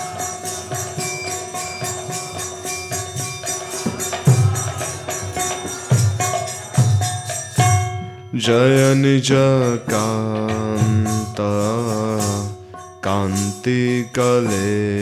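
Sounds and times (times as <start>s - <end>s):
steady held tones: 0.0s - 14.8s
small hand cymbals: 0.0s - 15.0s.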